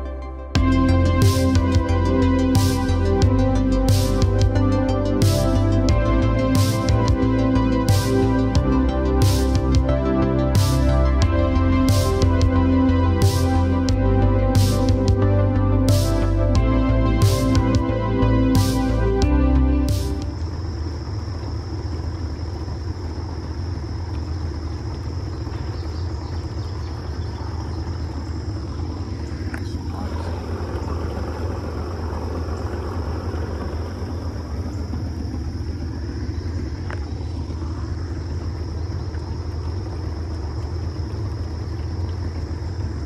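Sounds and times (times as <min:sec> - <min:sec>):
insect chorus high drone: 0:00.0 - 0:43.0
low rumble: 0:00.0 - 0:43.0.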